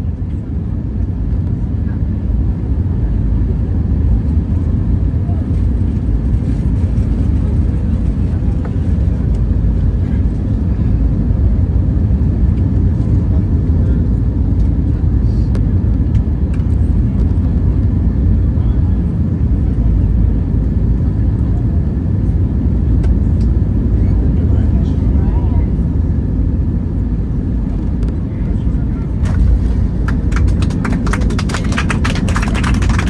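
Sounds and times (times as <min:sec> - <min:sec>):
airliner cabin engine rumble: 0:00.0 - 0:33.0.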